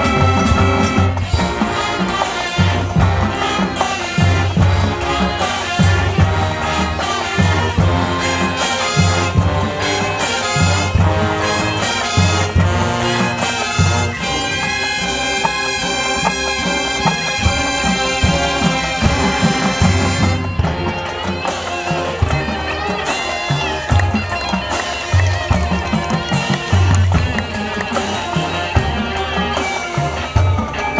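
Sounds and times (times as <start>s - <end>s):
drums and percussion: 0.0s - 30.9s
marching band brass: 0.0s - 30.9s.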